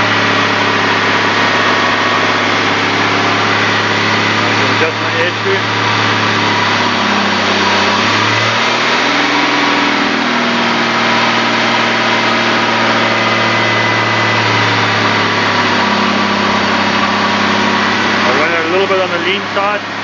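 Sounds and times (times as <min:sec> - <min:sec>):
car engine running steadily: 0:00.0 - 0:20.0.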